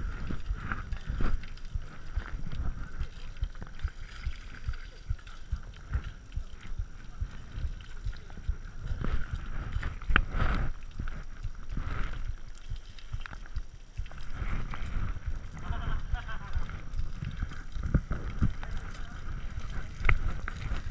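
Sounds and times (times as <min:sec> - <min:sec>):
hand scrubbing bike frame: 0:00.0 - 0:20.9
hose water spraying: 0:00.0 - 0:20.9.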